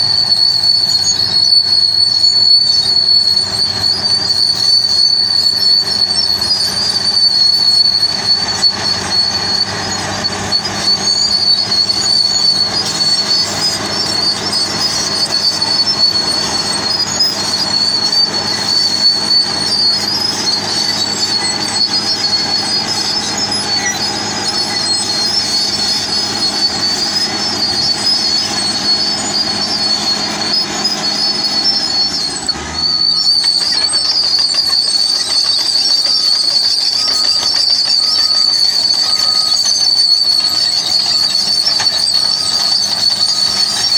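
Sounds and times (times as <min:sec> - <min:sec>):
bulldozer diesel engine running: 0:00.0 - 0:43.9
high-pitched whine: 0:00.0 - 0:43.9
reversing alarm beeping: 0:00.0 - 0:43.9.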